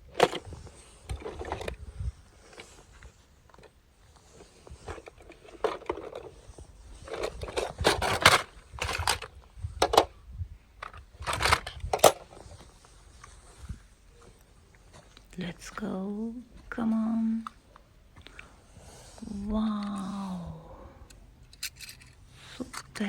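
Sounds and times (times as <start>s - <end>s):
toys rustling and crinkling: 0.0s - 10.1s, 10.8s - 23.0s.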